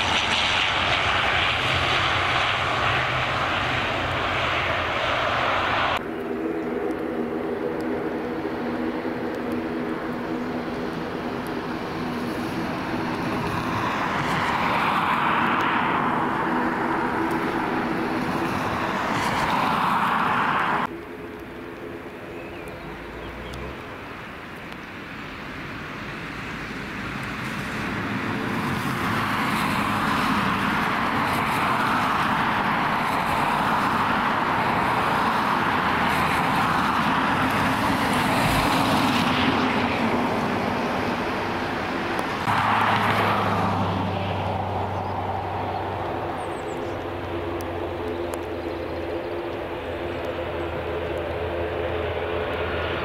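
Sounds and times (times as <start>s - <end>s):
airliner engine hum on approach: 0.0s - 53.0s
jet engines at takeoff power: 0.0s - 53.0s.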